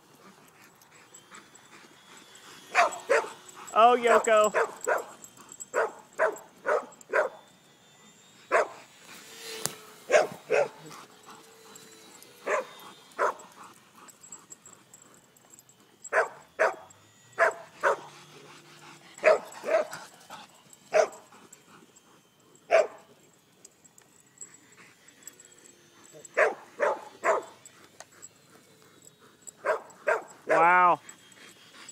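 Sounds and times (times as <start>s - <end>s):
dogs barking: 0.4s - 7.5s, 8.5s - 9.0s, 9.9s - 14.8s, 15.6s - 22.0s, 22.6s - 23.1s, 24.7s - 31.9s.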